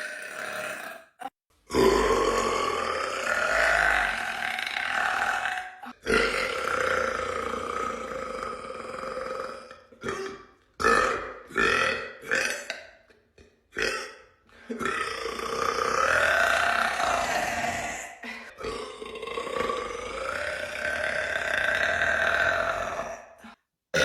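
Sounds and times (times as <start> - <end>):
woman burping: 0.0 - 8.1, 9.5 - 24.0.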